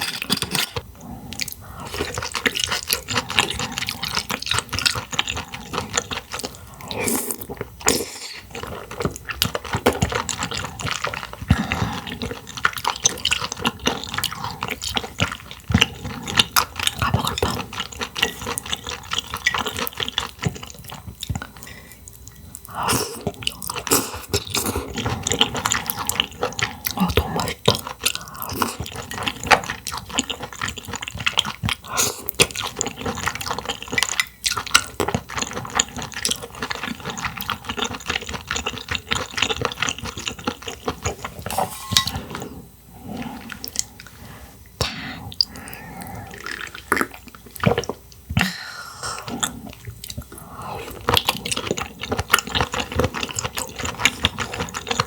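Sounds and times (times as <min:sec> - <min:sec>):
wet chewing: 0:00.4 - 0:44.2, 0:45.3 - 0:48.6, 0:49.2 - 0:55.0.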